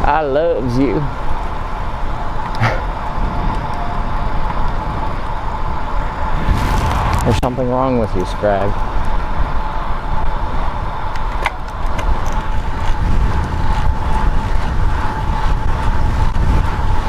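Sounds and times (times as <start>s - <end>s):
bicycle tyre-on-road noise: 0.0s - 17.0s
wind buffeting microphone: 0.0s - 17.0s.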